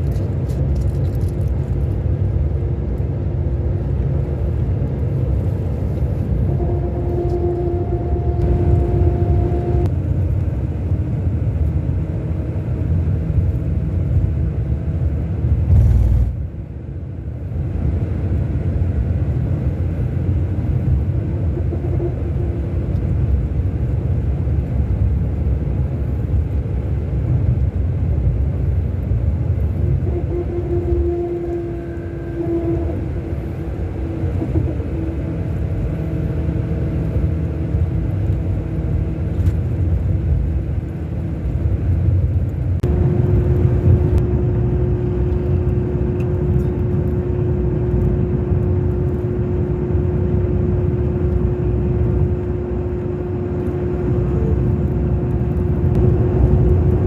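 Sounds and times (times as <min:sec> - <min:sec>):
coach engine rumbling: 0:00.0 - 0:57.0
faint engine whine: 0:00.0 - 0:57.0.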